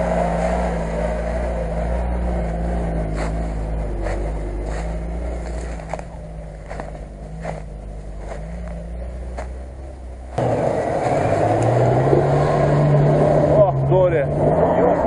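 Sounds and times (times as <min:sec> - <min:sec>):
engine climbing muddy track: 0:00.0 - 0:15.0
engine revving through mud: 0:00.0 - 0:15.0.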